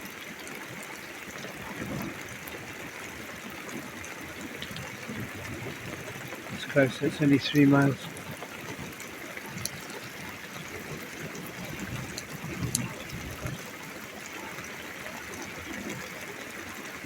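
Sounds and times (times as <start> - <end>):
steady rain falling: 0.0 - 17.0
water trickling and dripping: 0.0 - 17.0.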